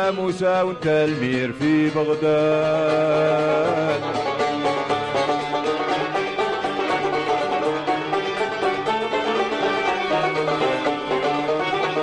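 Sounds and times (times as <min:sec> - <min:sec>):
plucked-string ensemble with oud: 0:00.0 - 0:12.0.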